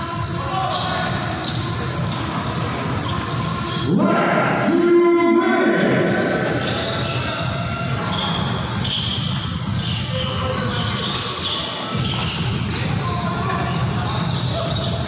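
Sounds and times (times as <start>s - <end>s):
sneakers squeaking on court: 0.0s - 4.0s, 6.1s - 15.0s.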